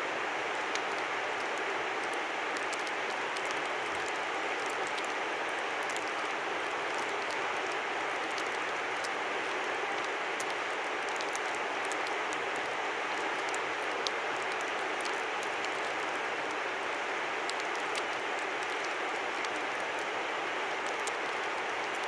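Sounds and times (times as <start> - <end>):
small ticks and drips: 0.4 - 22.0.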